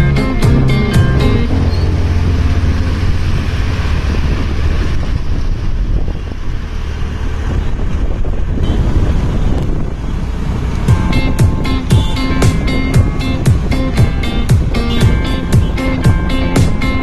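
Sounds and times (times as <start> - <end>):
vehicle rumble on highway: 0.0 - 17.0
wind buffeting microphone: 0.0 - 17.0.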